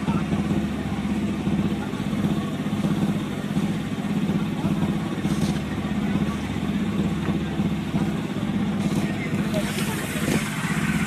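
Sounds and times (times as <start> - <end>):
air compressor engine running: 0.0 - 11.0.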